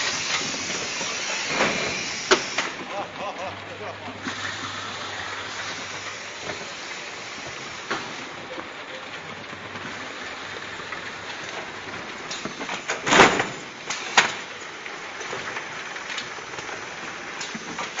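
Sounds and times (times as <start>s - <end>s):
wrapping machine clatter and hum: 0.0s - 18.0s.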